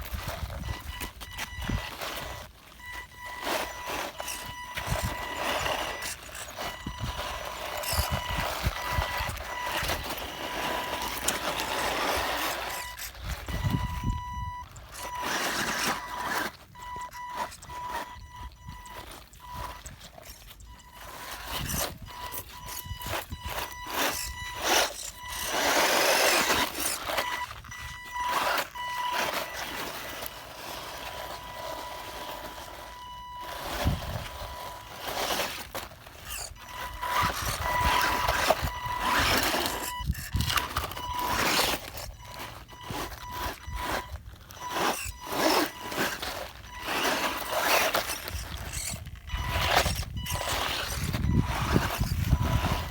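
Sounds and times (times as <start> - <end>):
tyres scrabbling on gravel: 0.0 - 52.9.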